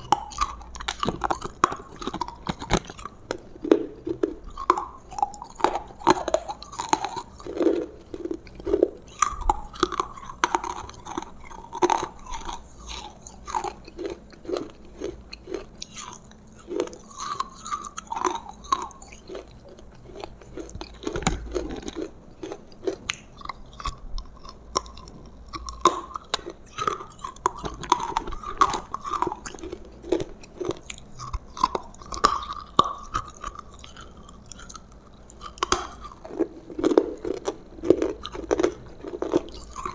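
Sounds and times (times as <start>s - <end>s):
wet chewing and crunching: 0.0s - 39.9s.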